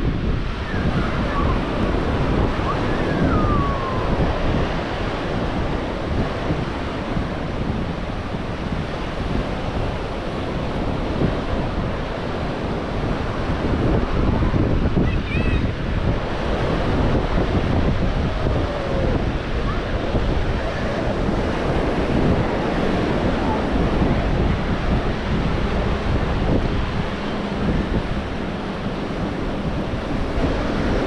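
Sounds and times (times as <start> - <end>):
ocean surf washing ashore: 0.0 - 31.0
wind buffeting microphone: 0.0 - 31.0.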